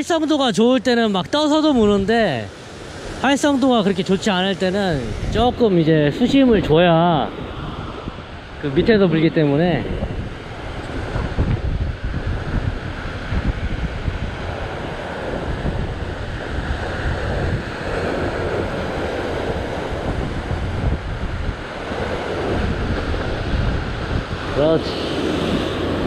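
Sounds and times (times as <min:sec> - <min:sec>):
waves washing over rocks: 0:00.1 - 0:26.0
wind buffeting microphone: 0:01.0 - 0:26.0.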